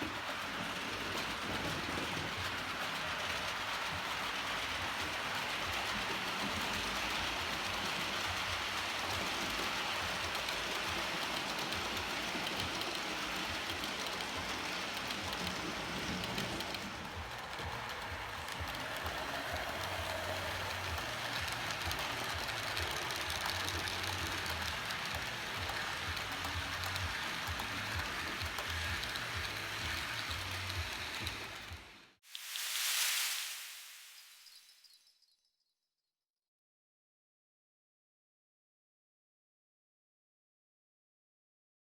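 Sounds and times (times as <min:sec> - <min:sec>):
model train wheels rolling on rails: 0:00.0 - 0:35.0.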